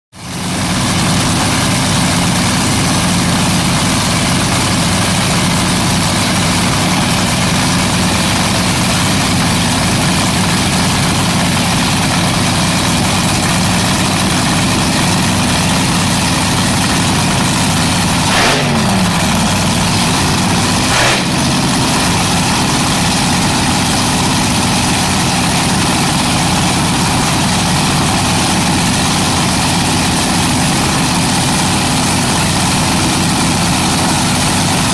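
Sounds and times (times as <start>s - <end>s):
dragster engine idling: 0.2s - 34.9s.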